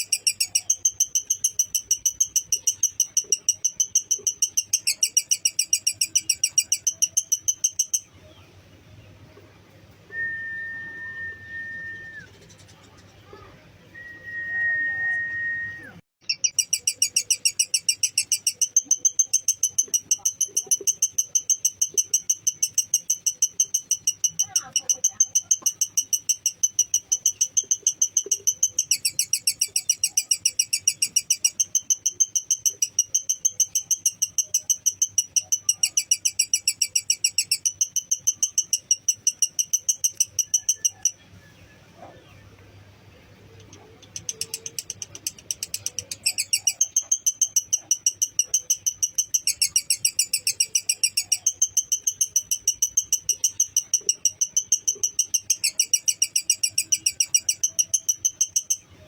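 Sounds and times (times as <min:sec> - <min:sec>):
lovebird chattering trill: 0:00.0 - 0:08.4, 0:16.2 - 0:41.7, 0:43.3 - 0:59.0.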